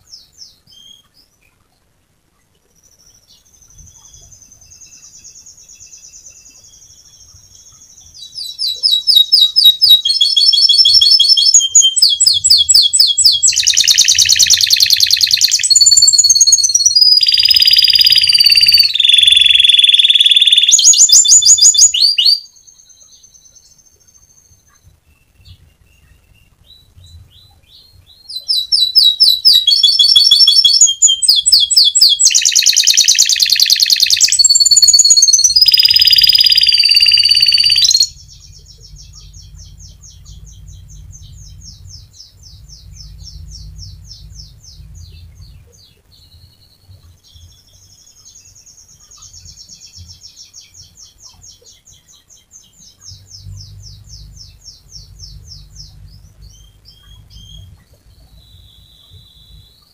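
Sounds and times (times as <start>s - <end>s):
canary singing trills: 0.0s - 1.6s, 2.4s - 59.9s.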